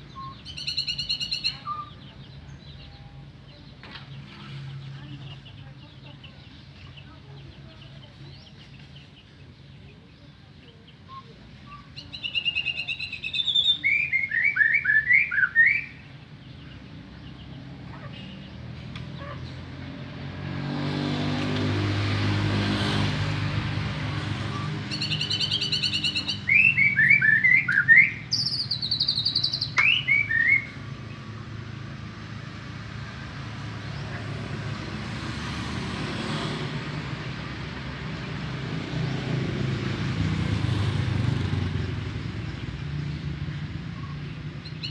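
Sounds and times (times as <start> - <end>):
songbird singing: 0.0 - 44.9
vehicle engine hum passing: 0.0 - 44.9.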